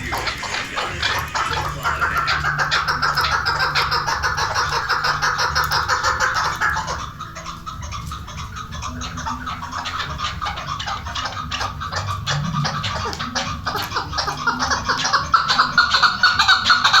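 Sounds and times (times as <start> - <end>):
partridge calling: 0.0 - 17.0.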